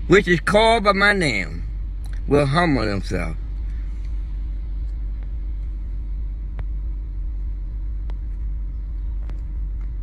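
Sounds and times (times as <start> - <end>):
car engine idling: 0.0 - 10.0
faint steady hum: 0.0 - 10.0.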